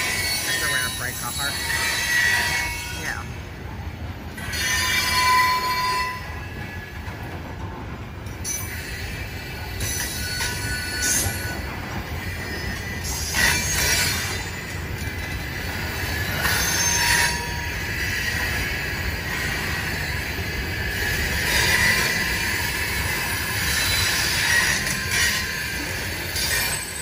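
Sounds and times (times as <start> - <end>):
high wheel squeal: 0.0 - 3.3, 4.4 - 7.0, 8.5 - 27.0
train clatter: 0.0 - 27.0
train wheels rumbling on rails: 0.0 - 27.0.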